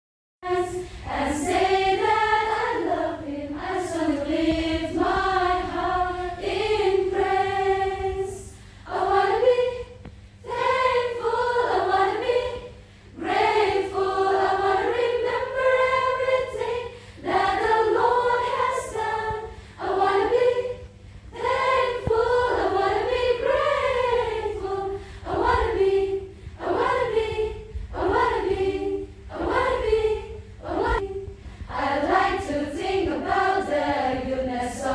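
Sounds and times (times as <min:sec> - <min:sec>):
women singing together: 0:00.4 - 0:34.9.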